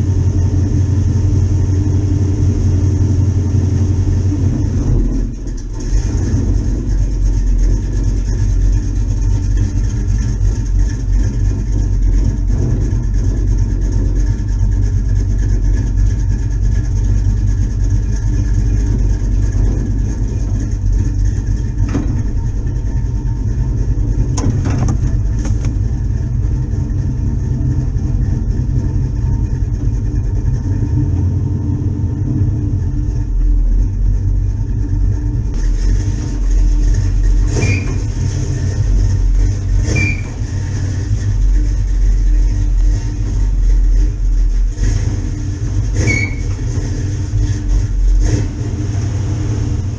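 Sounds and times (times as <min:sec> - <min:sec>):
vehicle engine rumbling: 0:00.0 - 0:49.9.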